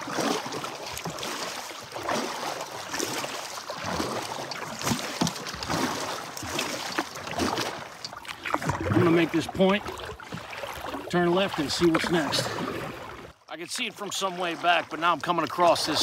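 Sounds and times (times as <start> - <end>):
paddle splashing in river water: 0.0 - 16.0.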